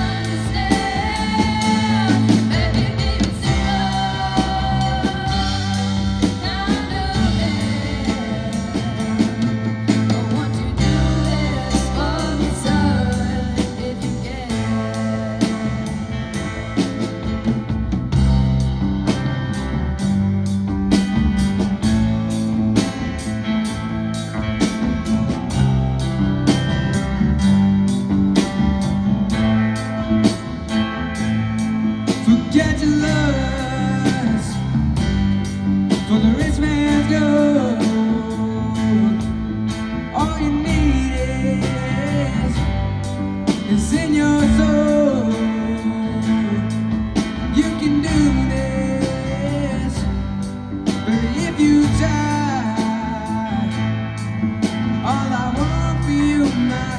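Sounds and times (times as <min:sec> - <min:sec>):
rock band playing slow song: 0:00.0 - 0:56.9
sliding lead melody: 0:00.0 - 0:56.9.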